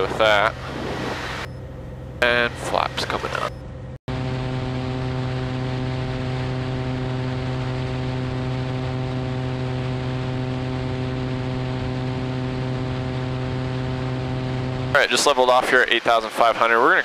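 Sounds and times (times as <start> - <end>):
propeller airplane engine drone: 0.0 - 17.0.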